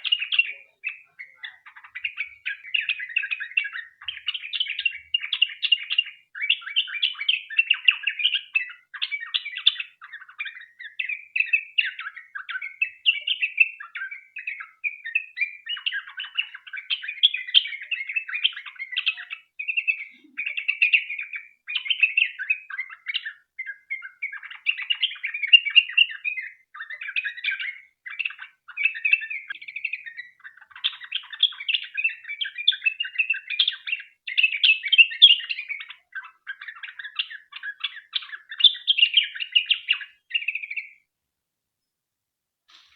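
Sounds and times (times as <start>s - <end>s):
bird chattering song: 0.0s - 41.1s.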